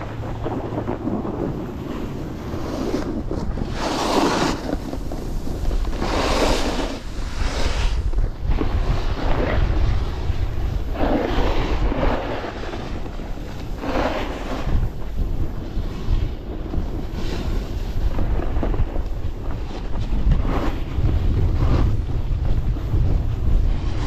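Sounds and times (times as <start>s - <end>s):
skis scraping on snow: 0.0s - 24.0s
wind buffeting microphone: 0.0s - 24.0s.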